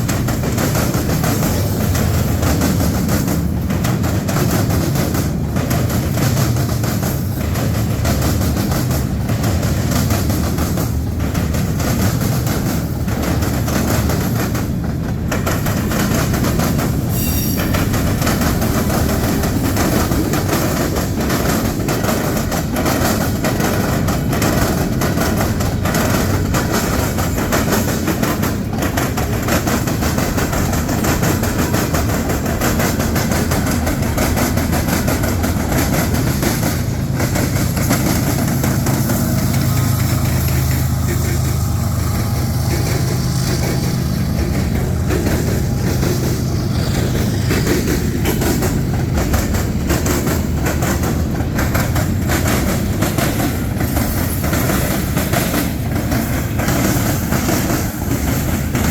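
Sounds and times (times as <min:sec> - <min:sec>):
freight train cars rumbling past: 0:00.0 - 0:58.9
wheels clacking on track: 0:00.0 - 0:58.9.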